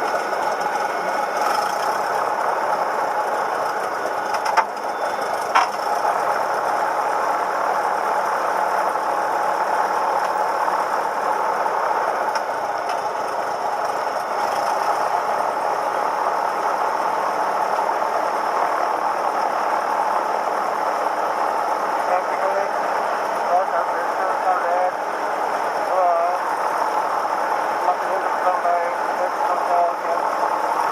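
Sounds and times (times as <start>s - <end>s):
propeller plane engine droning: 0.0s - 30.9s.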